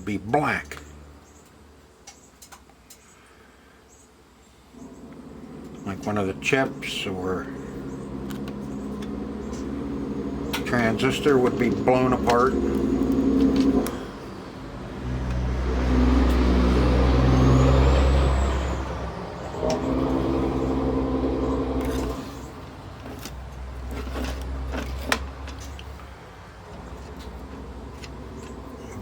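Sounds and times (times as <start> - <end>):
low mechanical drone: 4.6 - 29.0.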